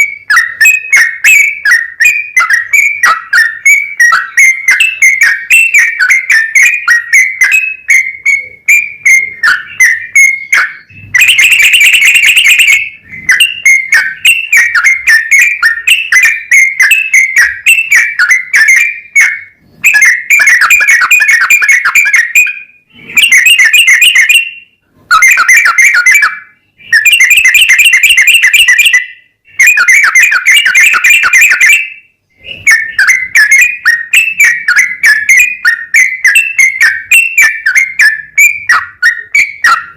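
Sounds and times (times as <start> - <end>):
bulbul chattering whistled song: 0.0 - 39.9.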